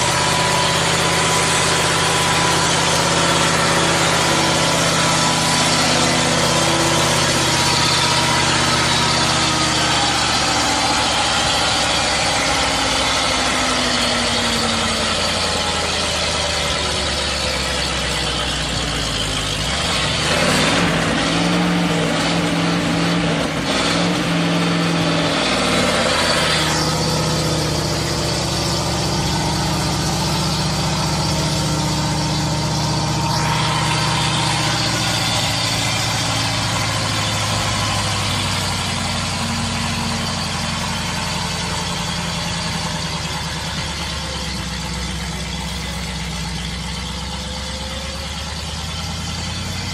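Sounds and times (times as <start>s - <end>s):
truck engine running and revving: 0.0s - 49.9s.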